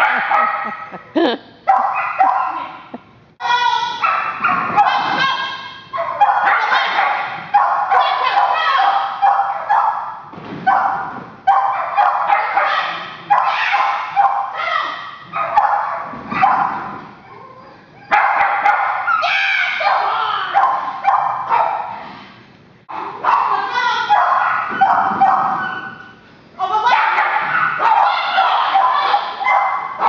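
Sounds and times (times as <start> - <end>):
dog barking in echoing hall: 0.0 - 2.9, 3.7 - 22.1, 22.9 - 30.0.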